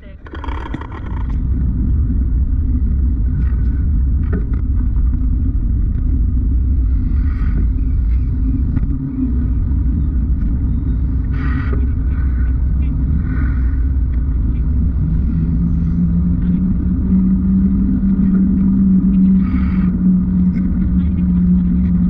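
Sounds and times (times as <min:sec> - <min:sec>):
muffled wind and road rumble: 0:00.0 - 0:22.0.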